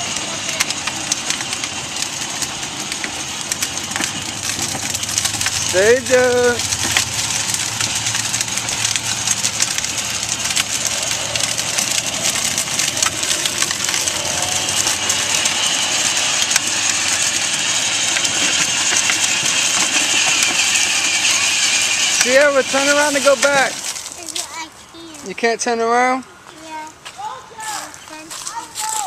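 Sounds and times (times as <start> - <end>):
faint engine hum: 0.0 - 25.4
tyres crunching over gravel: 0.0 - 29.0.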